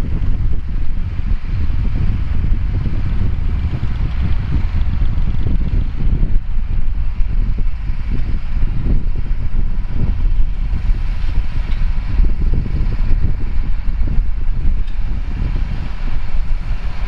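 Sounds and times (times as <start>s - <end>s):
tractor diesel engine running: 0.0s - 17.0s
wind buffeting microphone: 0.0s - 17.0s.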